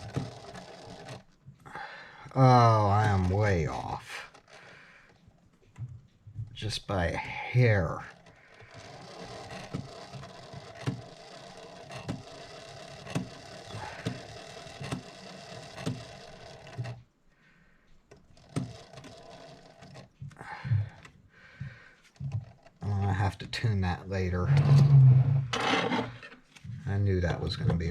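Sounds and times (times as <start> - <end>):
clock movement whirring and clicking: 0.0 - 17.2, 17.8 - 27.9.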